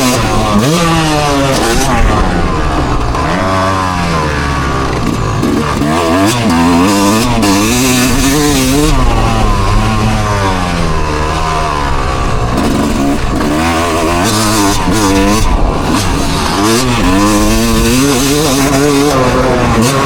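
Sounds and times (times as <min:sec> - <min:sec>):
engine revving loudly: 0:00.0 - 0:20.0.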